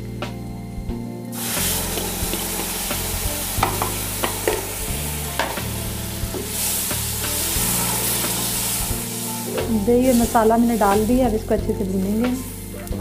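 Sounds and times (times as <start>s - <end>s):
food sizzling in hot oil: 1.3s - 13.0s.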